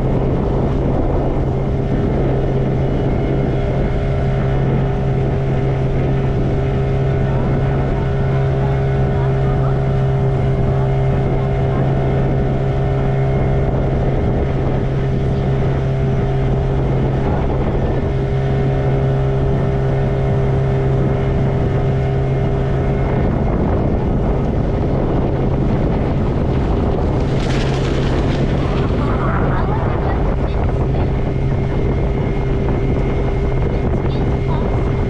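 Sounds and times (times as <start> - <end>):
motorboat engine droning: 0.0 - 35.0
wind noise on microphone: 0.0 - 35.0.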